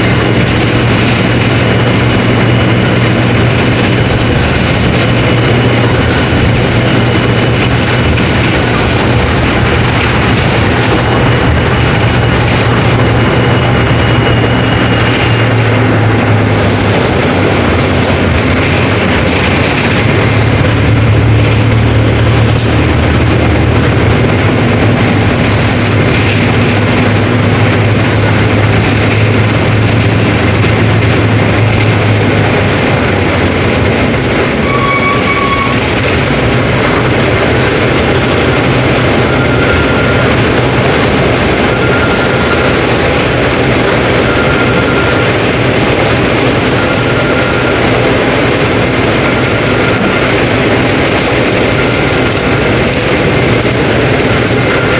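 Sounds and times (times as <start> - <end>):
bus diesel engine drone: 0.0 - 54.9
bus rumbling and rattling: 0.0 - 54.9.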